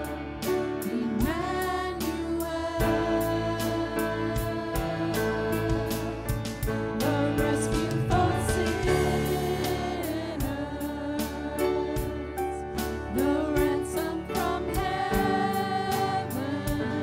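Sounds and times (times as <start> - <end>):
band playing: 0.0 - 17.0
drums steady beat: 0.0 - 17.0
women singing together: 0.0 - 17.0.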